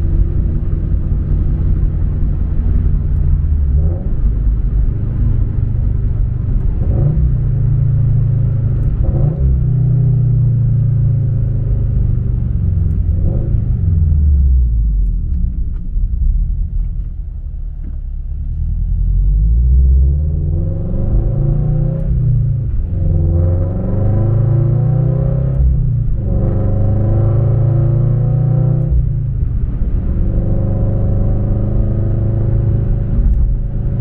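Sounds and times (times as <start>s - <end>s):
car engine rumble inside cabin: 0.0s - 34.0s.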